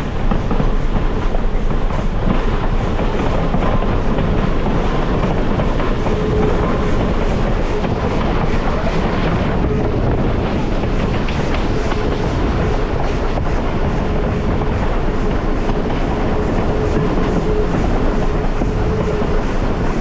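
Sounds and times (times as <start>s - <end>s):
train rumbling along track: 0.0s - 20.0s.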